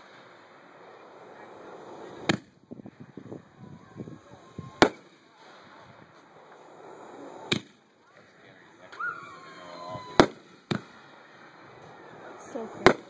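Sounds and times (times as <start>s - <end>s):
firework pops and crackles: 0.0s - 11.1s, 11.8s - 13.0s
firework bangs: 0.0s - 13.0s.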